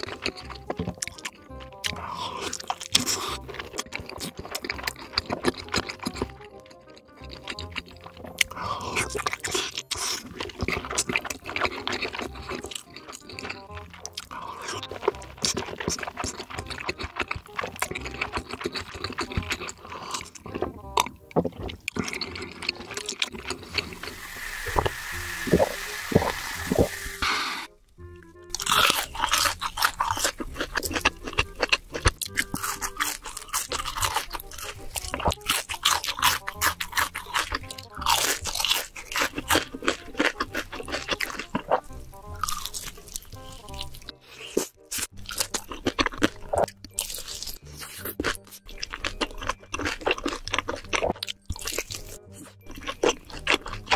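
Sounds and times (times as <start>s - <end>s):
background music: 0.0s - 53.9s
wet chewing mouth sounds: 0.0s - 53.9s.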